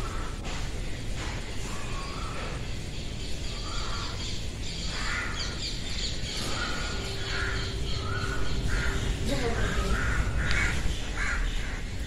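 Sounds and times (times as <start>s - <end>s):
birds calling: 0.0s - 12.0s
low background rumble: 0.0s - 12.0s.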